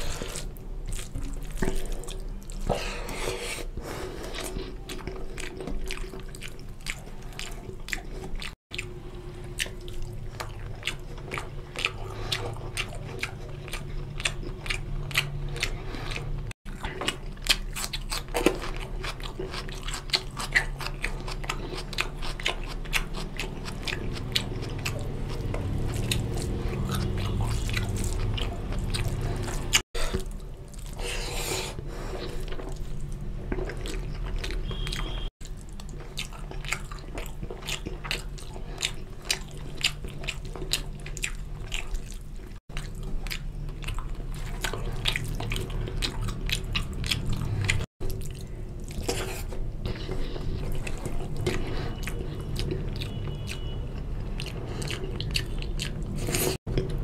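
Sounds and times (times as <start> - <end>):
chewing and lip smacks: 0.0 - 3.2, 4.2 - 57.0.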